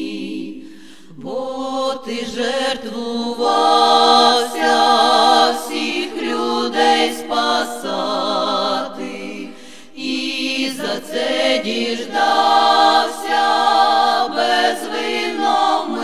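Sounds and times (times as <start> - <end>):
women's choir singing a cappella: 0.0 - 16.0.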